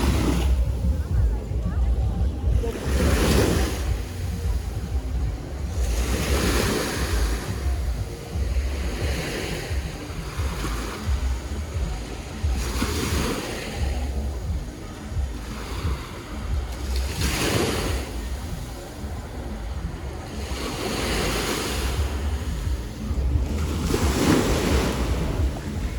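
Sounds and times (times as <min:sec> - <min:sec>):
sea waves washing ashore: 0:00.0 - 0:25.9
wind on microphone: 0:00.0 - 0:25.9.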